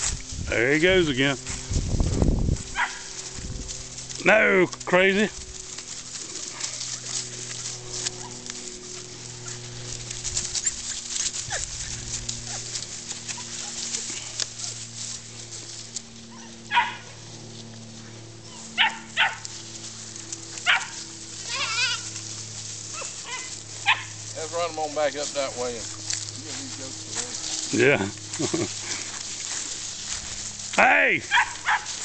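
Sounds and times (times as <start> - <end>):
puppies yapping: 2.1 - 4.2, 5.6 - 32.0.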